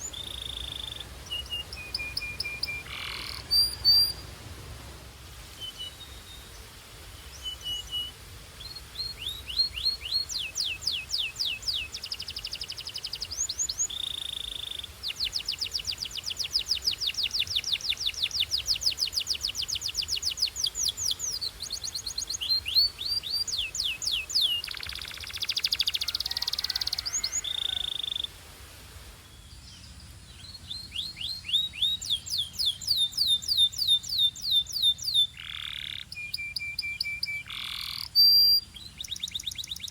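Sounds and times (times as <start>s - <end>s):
canary singing trills: 0.0s - 4.3s, 7.3s - 28.3s, 29.8s - 39.9s.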